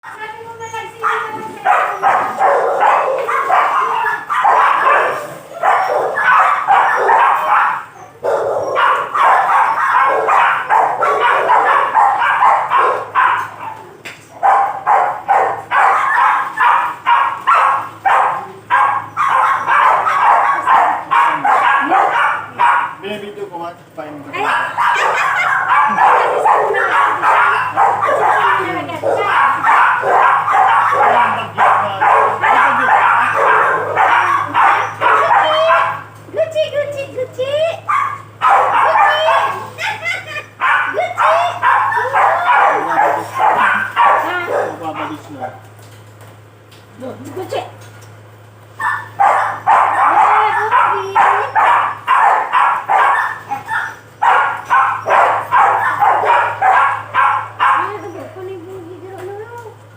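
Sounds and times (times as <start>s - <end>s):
dog barking: 1.0s - 23.1s, 24.4s - 36.2s, 37.5s - 45.7s, 48.8s - 58.4s.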